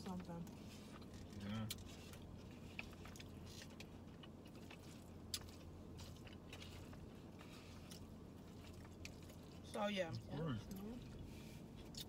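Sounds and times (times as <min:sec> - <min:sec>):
chewing and eating noises: 0:00.0 - 0:12.0
low steady hum: 0:00.0 - 0:12.0.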